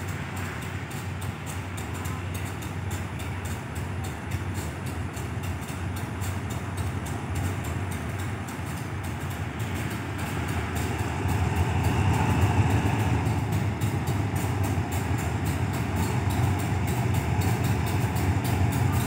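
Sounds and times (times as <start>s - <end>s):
locomotive engine humming: 0.0s - 19.0s.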